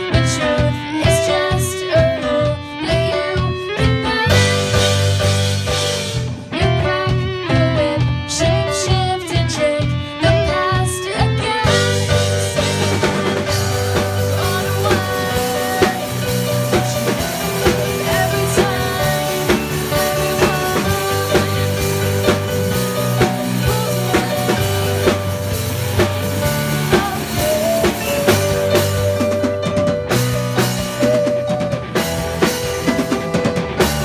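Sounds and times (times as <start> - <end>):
drum kit beat: 0.0 - 34.0
live band playing: 0.0 - 34.0.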